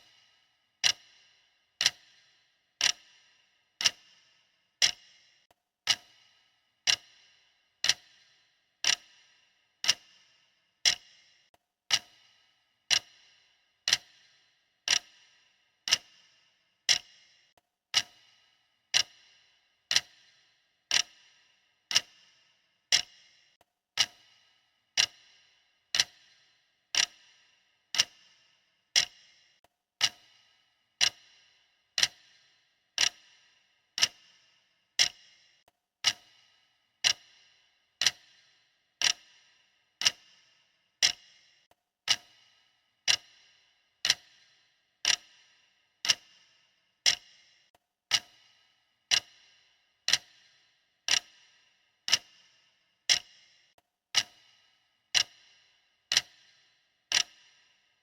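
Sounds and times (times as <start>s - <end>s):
clock ticking: 0.0s - 57.9s.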